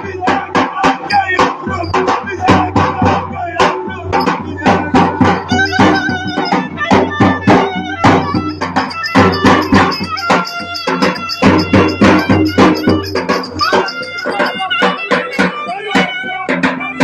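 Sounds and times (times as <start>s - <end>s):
fast drum beat: 0.0s - 16.9s
folk dance melody: 1.0s - 17.0s.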